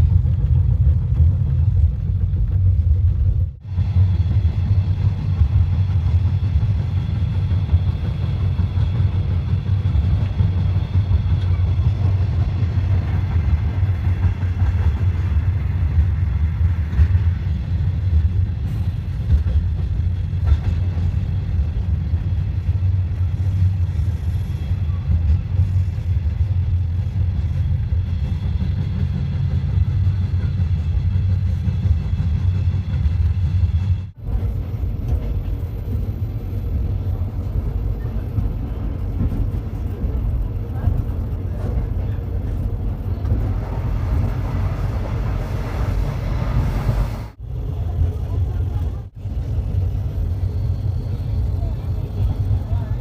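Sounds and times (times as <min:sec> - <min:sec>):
train rumble from inside: 0:00.0 - 0:53.0.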